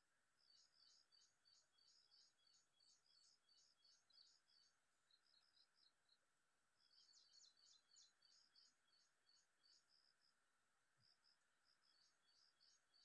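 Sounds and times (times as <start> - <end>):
faint outdoor hum: 0.0 - 13.0.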